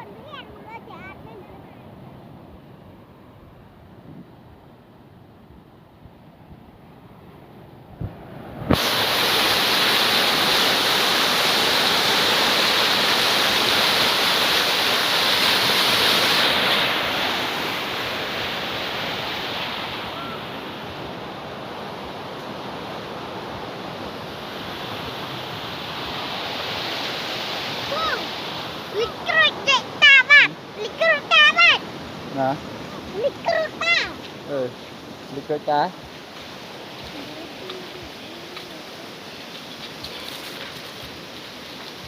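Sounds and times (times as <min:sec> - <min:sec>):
water rushing over waterfall: 0:08.0 - 0:42.0.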